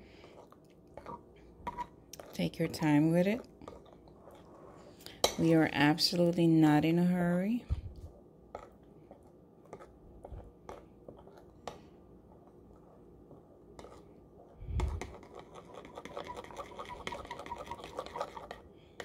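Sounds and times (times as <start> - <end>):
spoon stirring in a bowl: 0.1 - 4.6, 8.0 - 19.0.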